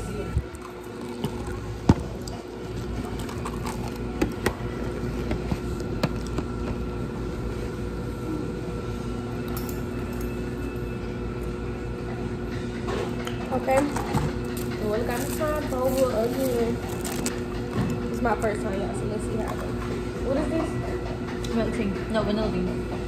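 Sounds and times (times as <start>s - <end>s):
machine hum with fixed tones: 0.0s - 23.0s.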